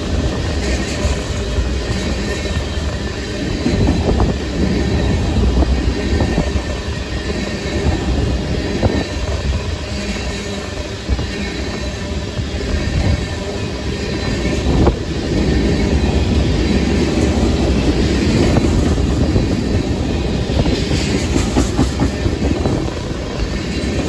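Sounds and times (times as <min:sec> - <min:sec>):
steady train rumble: 0:00.0 - 0:24.0
train wheels clattering over rail joints: 0:00.0 - 0:24.0.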